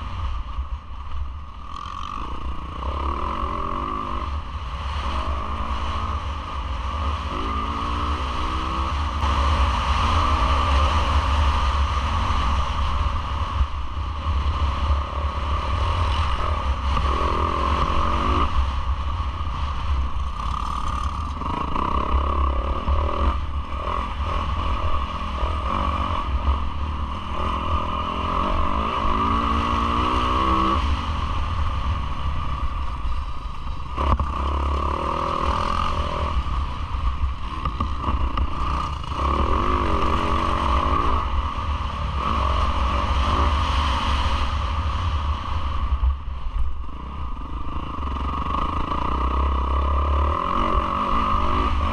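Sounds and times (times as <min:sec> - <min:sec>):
motorcycle engine revving: 0:00.0 - 0:51.9
steady low rumble: 0:00.0 - 0:51.9.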